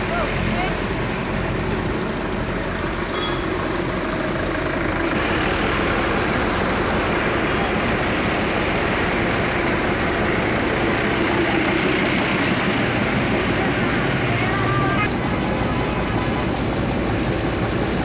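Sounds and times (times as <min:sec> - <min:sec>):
engine noise: 0:00.0 - 0:18.0
road traffic: 0:00.0 - 0:18.0.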